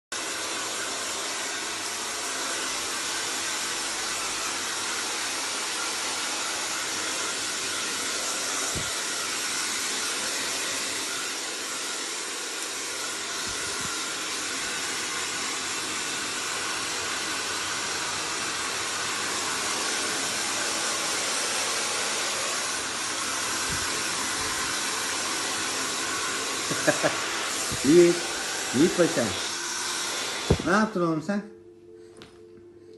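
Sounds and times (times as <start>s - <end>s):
hair dryer blowing: 0.1s - 31.2s.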